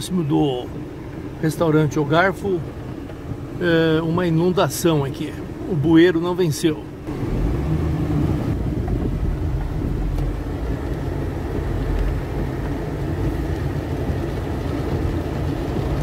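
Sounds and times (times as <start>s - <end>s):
car engine rumble: 0.0s - 16.0s
tyres on flooded road: 0.0s - 16.0s.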